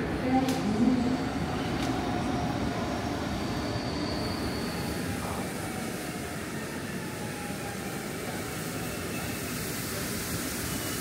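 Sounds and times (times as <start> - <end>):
passenger train rumble and hiss: 0.0 - 11.0.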